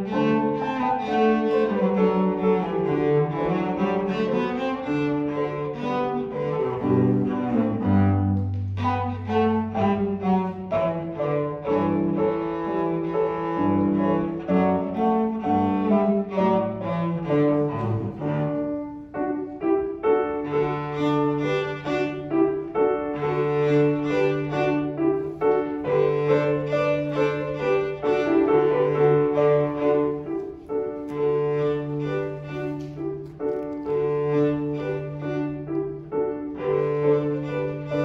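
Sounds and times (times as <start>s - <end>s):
cello playing long low notes: 0.0s - 38.0s
piano notes: 0.0s - 38.0s.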